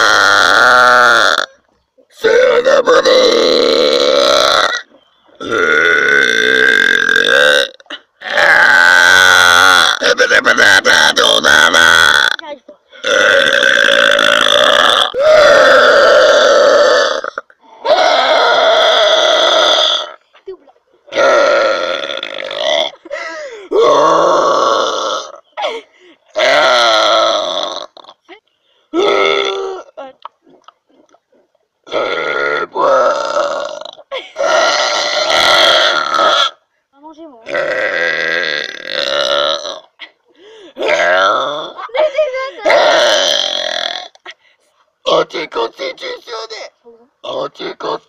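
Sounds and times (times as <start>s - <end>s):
woman belching: 0.0s - 20.5s, 21.1s - 31.2s, 31.8s - 36.6s, 37.4s - 40.2s, 40.8s - 44.4s
woman burping loudly: 0.0s - 31.2s, 31.8s - 36.7s, 37.4s - 44.4s.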